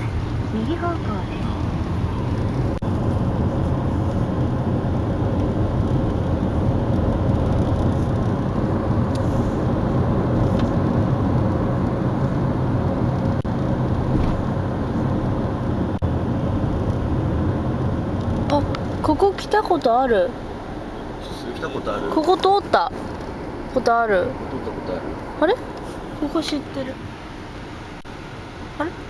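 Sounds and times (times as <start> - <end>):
car interior road and engine rumble: 0.0 - 29.0.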